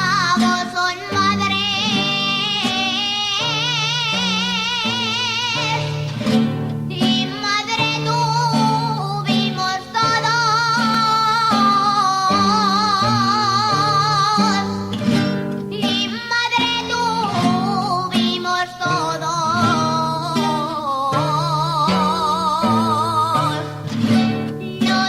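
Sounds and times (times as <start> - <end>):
plucked guitar: 0.0 - 25.0
woman singing folk song: 0.0 - 25.0.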